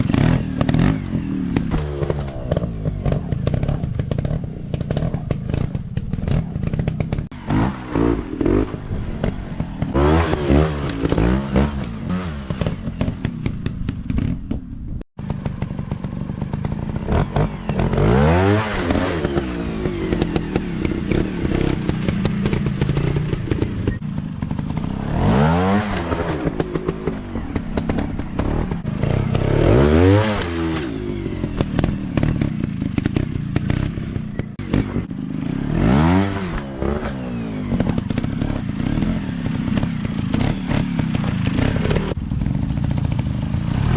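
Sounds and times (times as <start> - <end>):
dirt bike engines revving: 0.0 - 14.4, 15.3 - 43.9.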